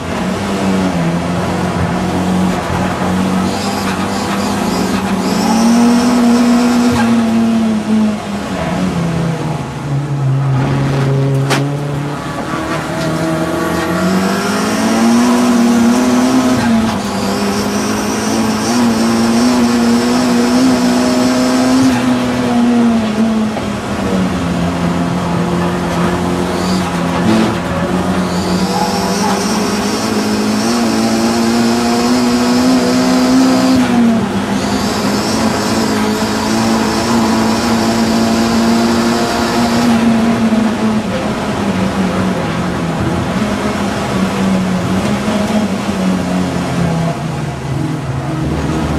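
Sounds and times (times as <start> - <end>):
race car engine at hard throttle: 0.0 - 48.9.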